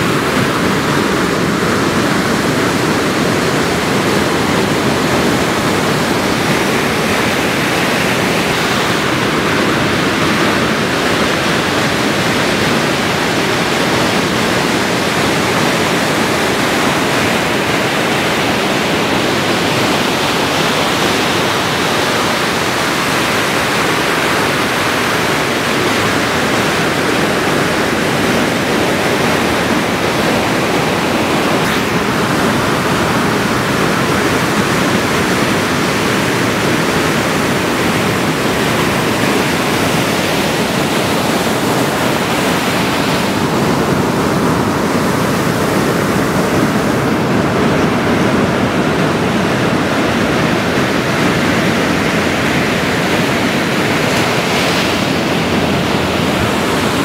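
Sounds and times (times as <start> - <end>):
ocean surf rushing: 0.0 - 57.0.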